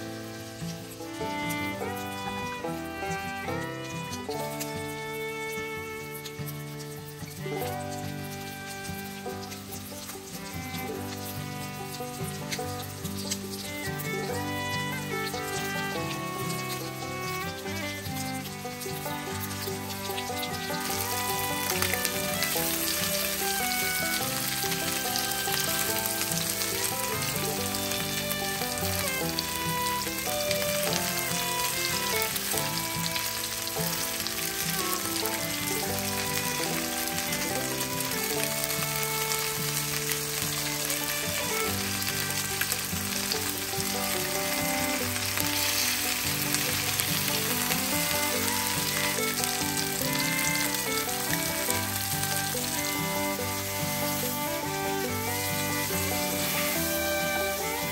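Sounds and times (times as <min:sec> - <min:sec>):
background music melody: 0:00.0 - 0:57.9
fish sizzling in a pan: 0:00.0 - 0:57.9.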